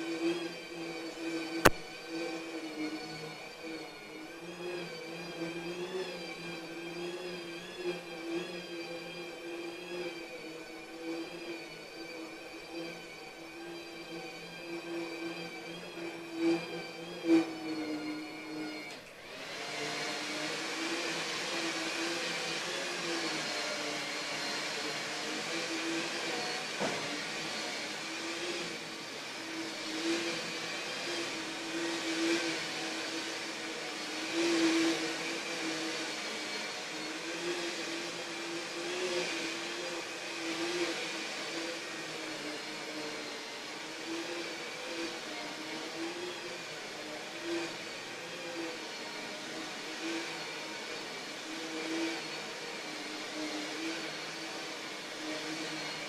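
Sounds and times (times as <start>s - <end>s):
carpet cleaner motor humming: 0.0s - 56.0s.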